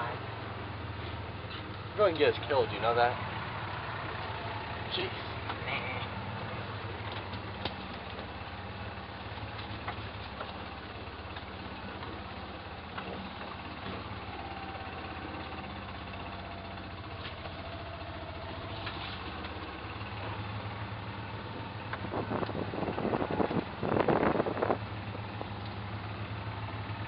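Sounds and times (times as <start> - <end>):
golf cart engine running: 0.0 - 27.0.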